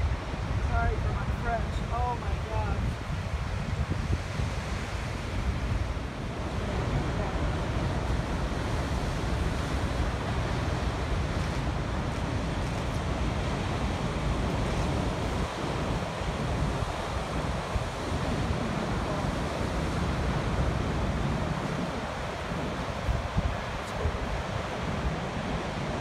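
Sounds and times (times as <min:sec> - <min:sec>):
waves crashing on rocky shore: 0:00.0 - 0:26.0
wind buffeting microphone: 0:00.0 - 0:26.0.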